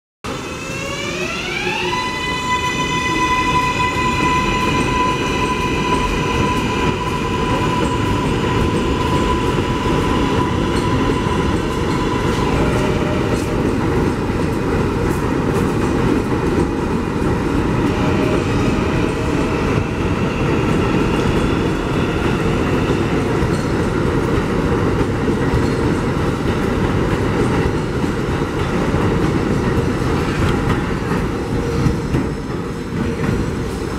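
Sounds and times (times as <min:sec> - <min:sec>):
train cars rumbling and clattering: 0:02.0 - 0:33.9.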